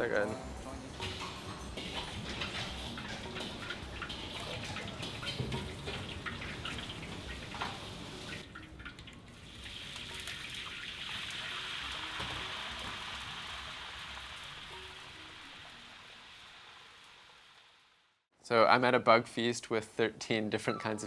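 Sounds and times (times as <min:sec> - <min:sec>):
steady sizzling hiss: 0:00.0 - 0:18.3
running water: 0:00.4 - 0:17.9.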